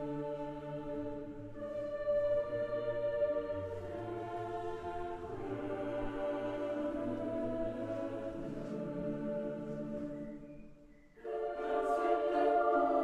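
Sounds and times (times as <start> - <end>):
slow choral music: 0.0 - 13.0.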